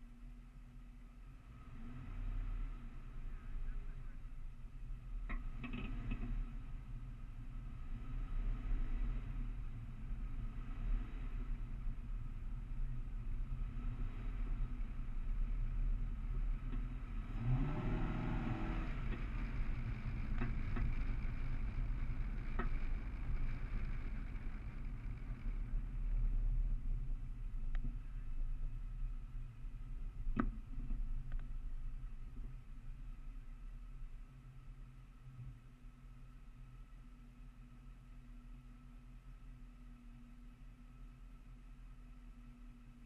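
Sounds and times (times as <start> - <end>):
car engine: 0.0 - 43.0
road rumble: 0.0 - 43.0.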